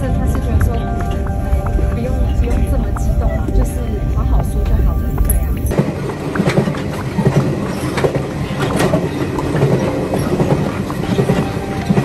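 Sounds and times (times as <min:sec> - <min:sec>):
train rumble inside carriage: 0:00.0 - 0:12.0.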